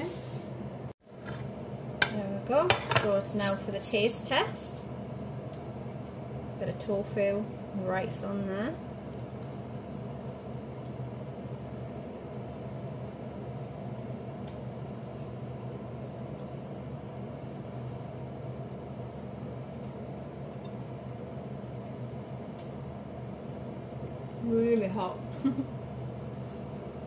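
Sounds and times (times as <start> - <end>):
kitchen fan humming: 0.0 - 27.0.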